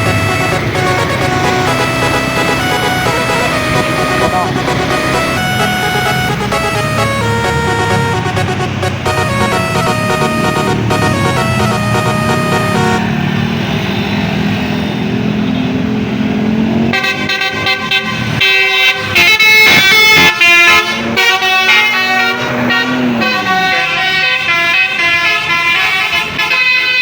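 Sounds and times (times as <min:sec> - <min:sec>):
multi-tone bus horn melody: 0:00.0 - 0:14.2, 0:16.8 - 0:27.0
vehicle engine and road noise: 0:00.0 - 0:27.0.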